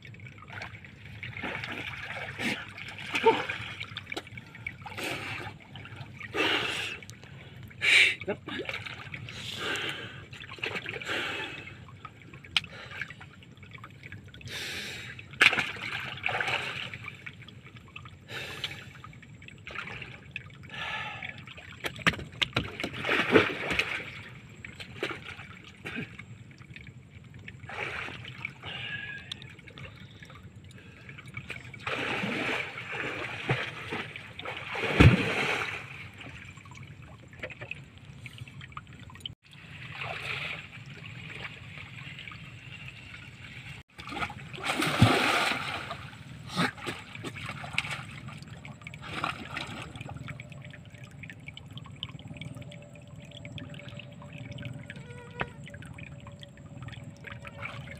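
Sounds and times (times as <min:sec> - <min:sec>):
water splashing and sloshing: 0:00.0 - 0:57.9.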